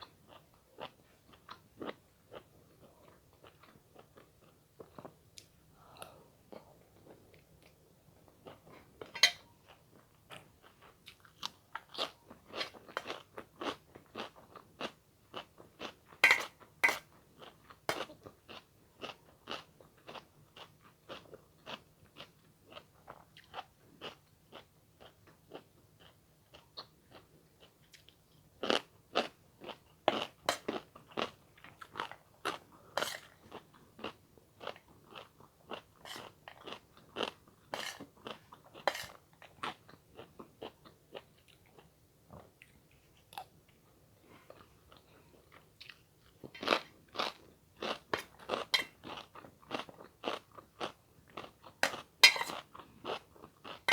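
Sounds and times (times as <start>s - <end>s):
person chewing with crunches: 5.8s - 53.9s.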